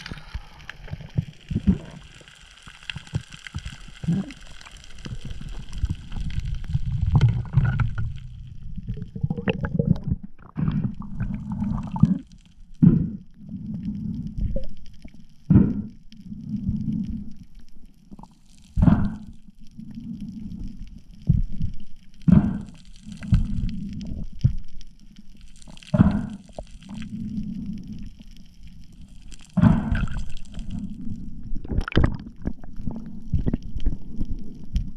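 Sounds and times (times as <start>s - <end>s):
underwater water rumbling: 0.0s - 34.9s.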